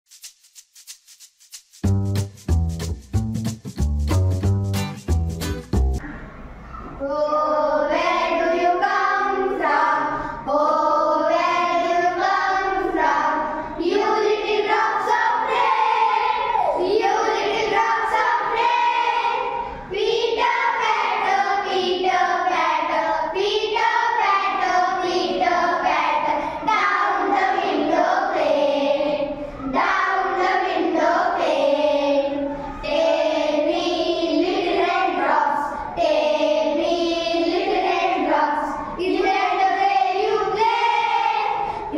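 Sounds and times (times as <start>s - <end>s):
children singing in unison: 7.0s - 41.9s.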